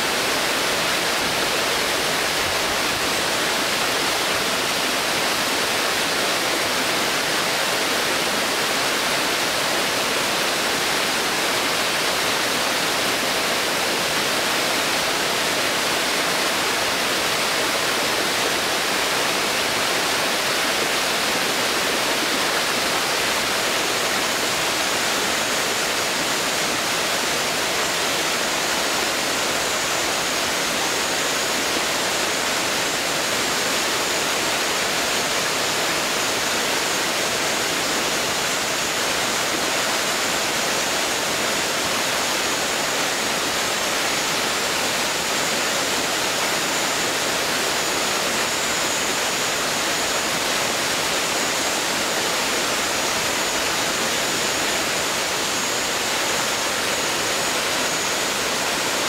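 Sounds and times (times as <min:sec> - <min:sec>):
waterfall rushing into pool: 0:00.0 - 0:59.0.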